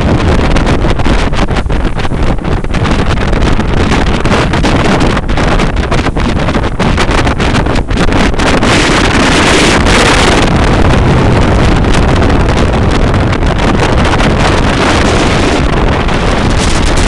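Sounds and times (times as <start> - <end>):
boat engine: 0.0 - 17.0
rushing water: 0.0 - 17.0
wind noise on microphone: 0.0 - 17.0.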